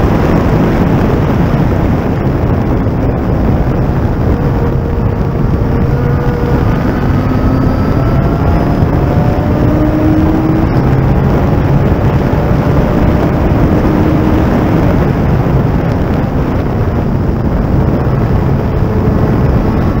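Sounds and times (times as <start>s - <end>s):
faint race car engine: 0.0s - 20.0s
wind rushing over microphone: 0.0s - 20.0s.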